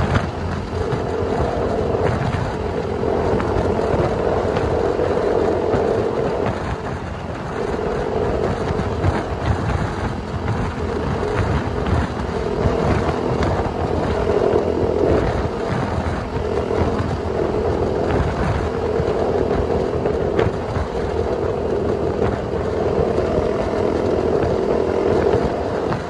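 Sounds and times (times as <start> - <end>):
motorcycle engine drone: 0.0 - 26.0
wind on microphone: 0.0 - 26.0.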